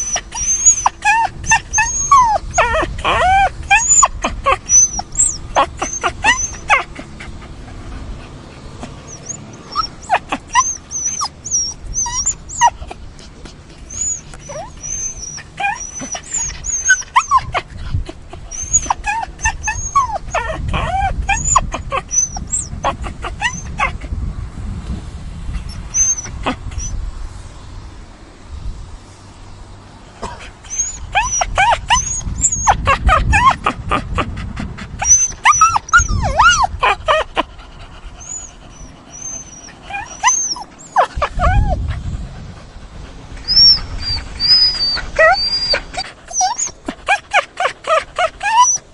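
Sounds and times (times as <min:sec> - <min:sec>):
dog whining and whimpering: 0:00.0 - 0:24.0, 0:25.6 - 0:27.0, 0:30.6 - 0:42.1, 0:43.3 - 0:48.9.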